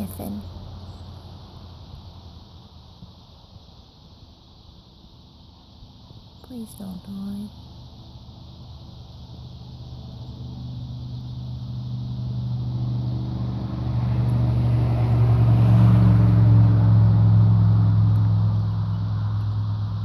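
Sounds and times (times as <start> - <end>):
low engine hum: 0.0 - 3.7, 6.2 - 20.0.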